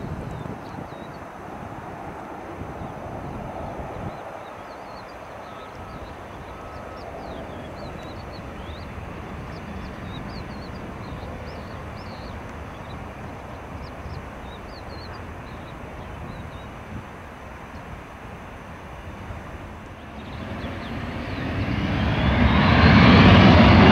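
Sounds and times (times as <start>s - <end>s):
birds chirping: 0.0s - 23.9s
jet engines rumbling and hissing: 0.0s - 23.9s.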